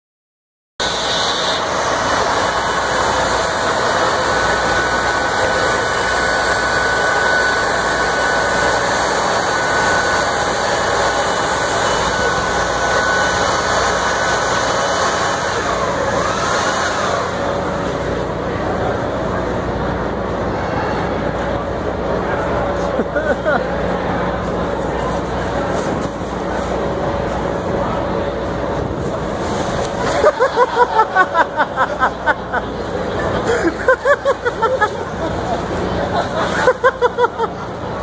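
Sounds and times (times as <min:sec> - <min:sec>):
electric air blower running: 0:00.8 - 0:20.4, 0:23.8 - 0:38.0.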